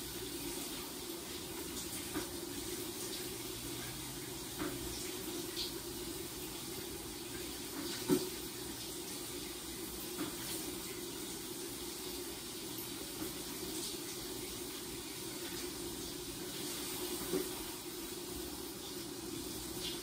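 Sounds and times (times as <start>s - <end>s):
shower water spraying: 0.0s - 20.0s.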